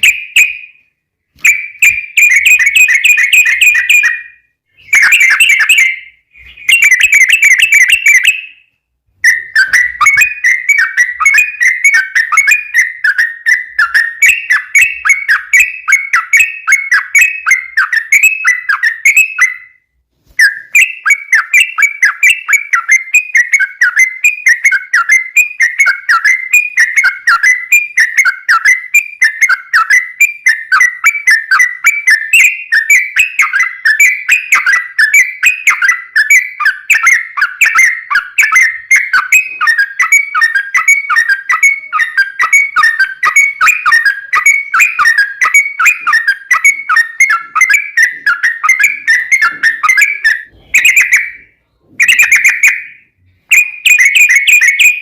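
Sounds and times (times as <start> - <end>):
bulbul whistled song: 0.0 - 55.0.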